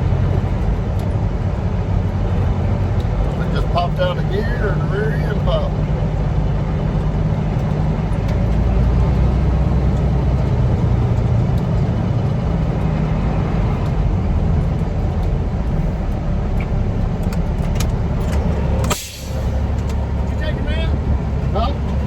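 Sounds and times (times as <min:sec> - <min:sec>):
diesel truck engine from inside cab: 0:00.0 - 0:22.0.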